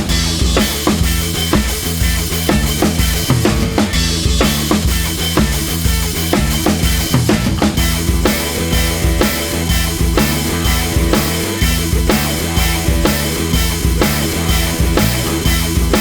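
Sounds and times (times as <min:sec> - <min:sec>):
drum kit beat: 0:00.0 - 0:16.0
repeating bass line: 0:00.0 - 0:16.0.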